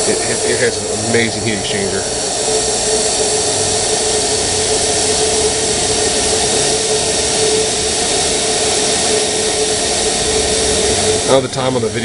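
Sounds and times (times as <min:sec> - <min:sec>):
stove burner roaring: 0:00.0 - 0:12.0.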